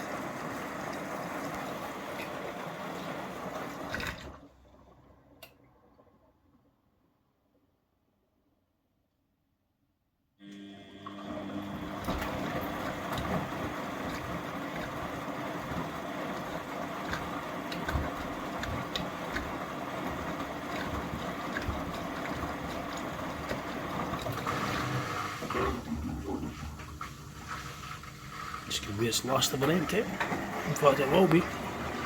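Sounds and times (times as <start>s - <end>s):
water rushing through pump: 0.0s - 6.0s, 10.5s - 32.0s
washing machine drain pump: 0.0s - 6.5s, 10.4s - 32.0s.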